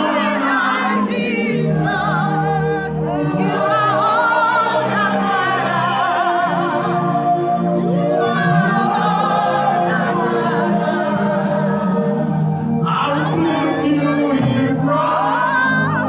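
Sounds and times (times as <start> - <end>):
choir singing gospel song: 0.0 - 16.0
sustained accompaniment: 0.0 - 16.0.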